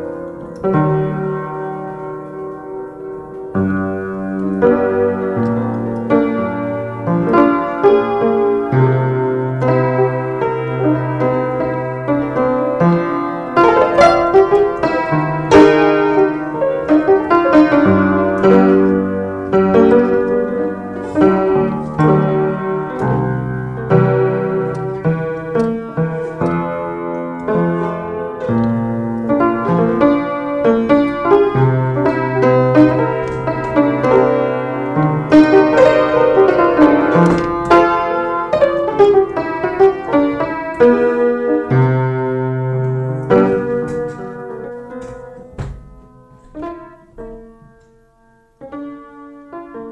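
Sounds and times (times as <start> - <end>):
piano playing: 0.0 - 49.9.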